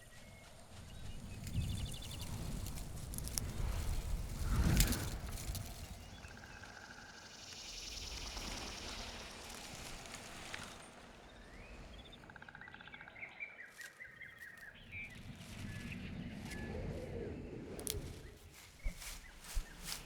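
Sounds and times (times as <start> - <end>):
birds chirping and trilling: 0.2 - 16.7.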